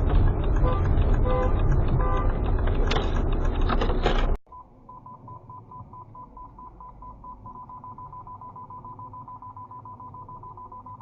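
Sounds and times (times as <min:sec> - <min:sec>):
car driving road rumble: 0:00.0 - 0:10.8.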